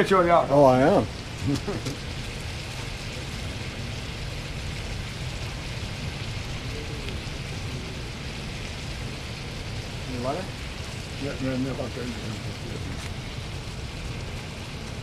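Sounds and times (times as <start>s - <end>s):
food sizzling in a pan: 0.0s - 15.0s
low rumble: 0.0s - 15.0s.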